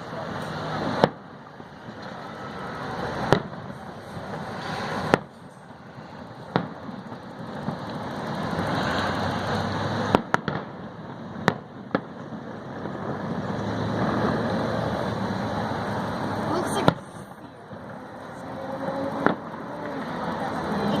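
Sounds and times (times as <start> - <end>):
fireworks bangs: 0.0 - 21.0
rushing noise: 0.0 - 21.0.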